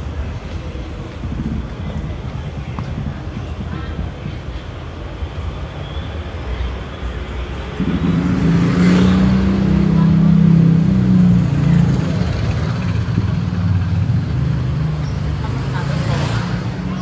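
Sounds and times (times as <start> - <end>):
low street rumble: 0.0 - 17.0
vehicle engine humming: 0.0 - 17.0.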